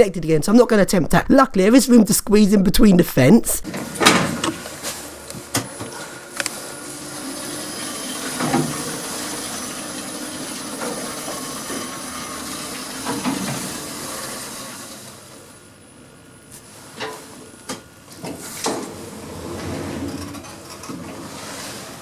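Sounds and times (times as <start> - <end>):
lift car running noise: 3.1 - 22.0.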